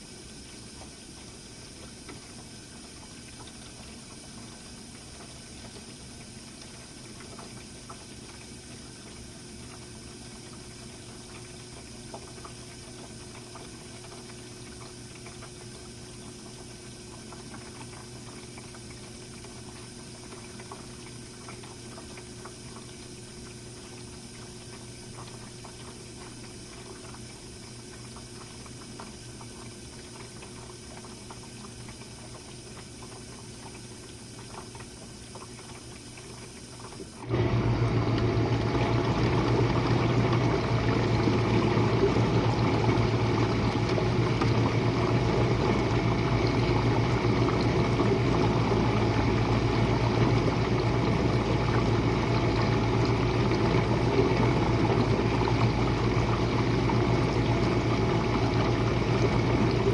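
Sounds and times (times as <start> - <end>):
water trickling and ticking: 0.0 - 37.2, 37.8 - 59.9
dishwasher humming: 0.0 - 59.9
pump motor with rushing water: 0.0 - 59.9.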